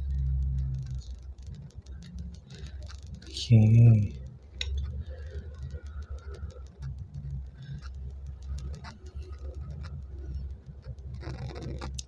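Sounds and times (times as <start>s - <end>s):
fingers rubbing small metal objects: 0.0s - 12.0s.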